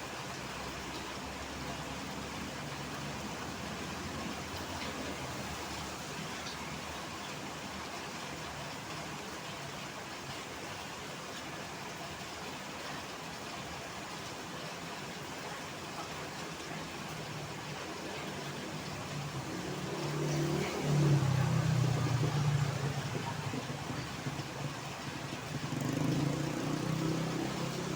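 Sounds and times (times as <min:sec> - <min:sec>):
heavy rain hissing: 0:00.0 - 0:27.9
road traffic: 0:00.0 - 0:27.9.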